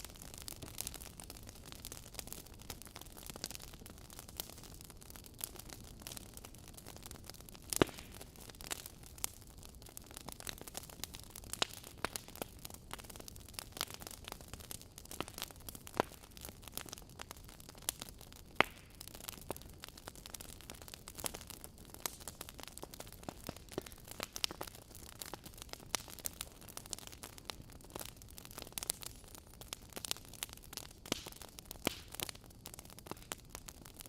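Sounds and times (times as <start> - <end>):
logs crackling in fireplace: 0.0 - 34.0
soft fire hiss: 0.0 - 34.0.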